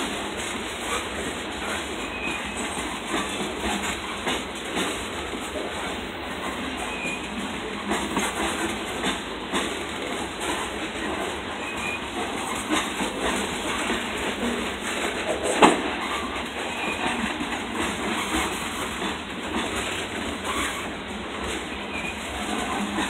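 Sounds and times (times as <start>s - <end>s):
freight train rolling past: 0.0s - 23.0s
wheels clattering over track: 0.0s - 23.0s.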